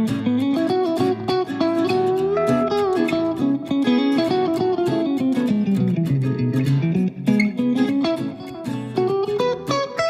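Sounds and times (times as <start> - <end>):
plucked guitar melody: 0.0 - 10.0.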